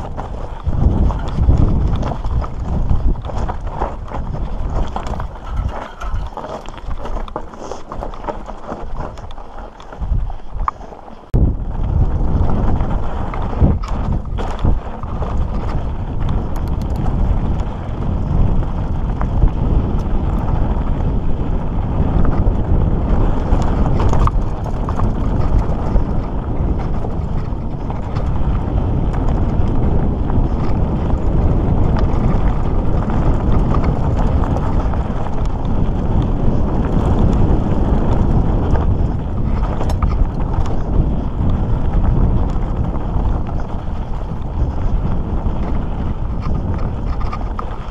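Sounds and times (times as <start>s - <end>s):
mountain bike rattling: 0.0s - 47.9s
tyres crunching over rocky trail: 0.0s - 47.9s
wind on microphone: 0.0s - 47.9s.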